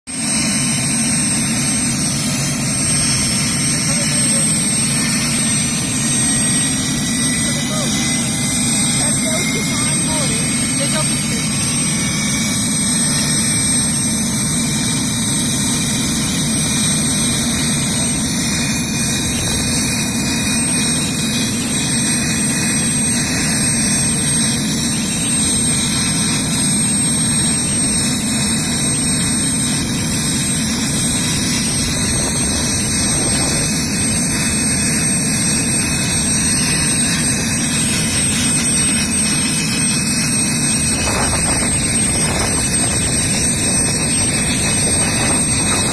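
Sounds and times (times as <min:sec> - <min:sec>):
helicopter turbine engines running: 0:00.1 - 0:45.9.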